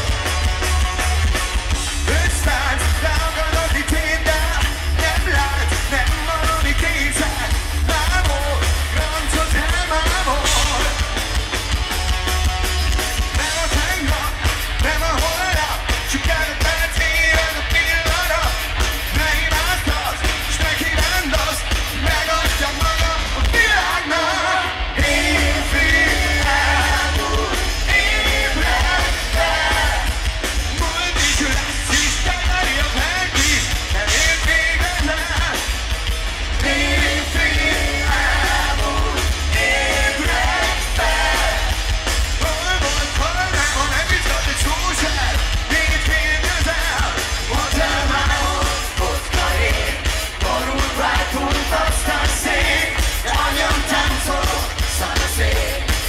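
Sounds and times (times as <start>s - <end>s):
lead singer singing: 0.0s - 11.5s, 12.1s - 35.8s, 36.4s - 56.0s
heavy bass: 0.0s - 56.0s
live rock band playing: 0.0s - 56.0s.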